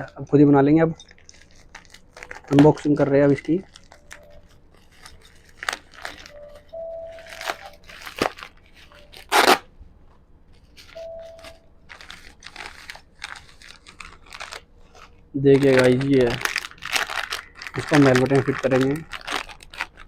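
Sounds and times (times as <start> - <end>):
packaging tearing and crinkling: 1.0 - 9.7, 10.8 - 20.0.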